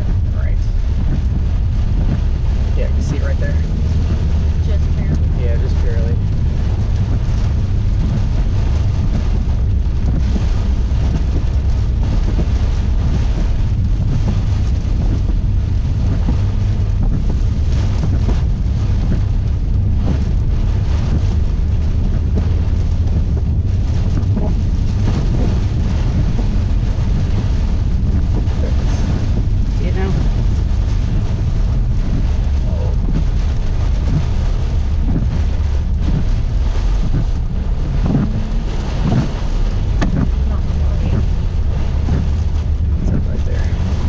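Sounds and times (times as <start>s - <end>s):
rain buffeting a vehicle: 0.0s - 44.0s
storm wind gusting: 0.0s - 44.0s.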